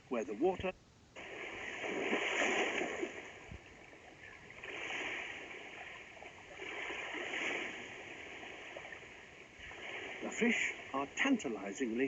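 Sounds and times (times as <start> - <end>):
small waves washing at shore: 1.2 - 12.0.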